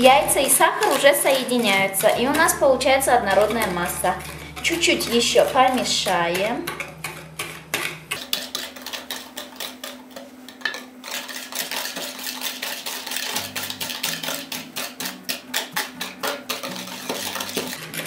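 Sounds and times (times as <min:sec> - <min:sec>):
whisk clicking against glass bowl: 0:00.0 - 0:18.0.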